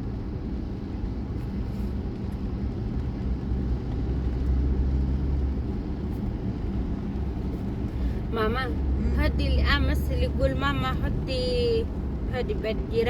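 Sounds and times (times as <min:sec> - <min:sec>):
car engine rumble: 0:00.0 - 0:13.0
road noise inside car: 0:00.0 - 0:13.0.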